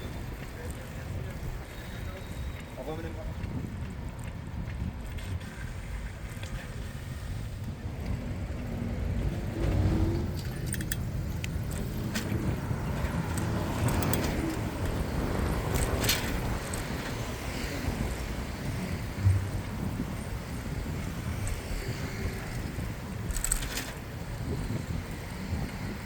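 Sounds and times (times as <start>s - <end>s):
cars passing: 0.0s - 26.0s
wind rumble on microphone: 0.0s - 26.0s.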